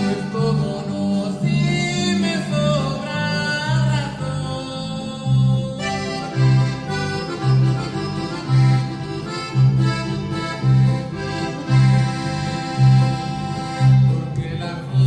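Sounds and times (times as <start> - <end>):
electric bass low notes: 0.0 - 15.0
sustained melody line: 0.0 - 15.0.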